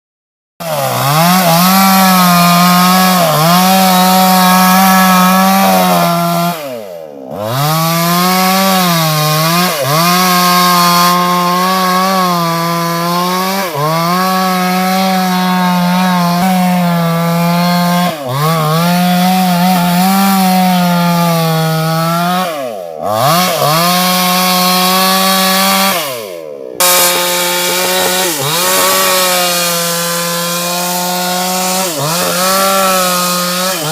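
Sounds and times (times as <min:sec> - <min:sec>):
chainsaw cutting wood: 0:00.6 - 0:33.9.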